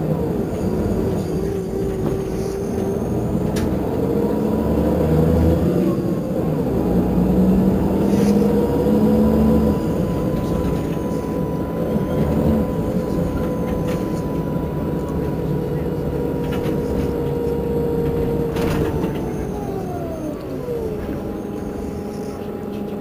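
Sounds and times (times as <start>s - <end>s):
bus engine idling: 0.0s - 23.0s.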